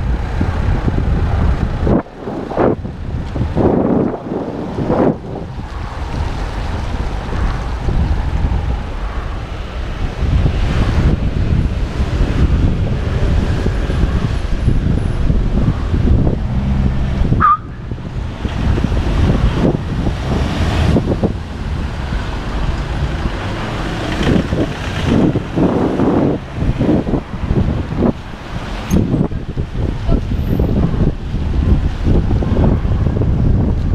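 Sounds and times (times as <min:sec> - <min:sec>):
road traffic: 0:00.0 - 0:33.9
wind buffeting microphone: 0:00.0 - 0:33.9.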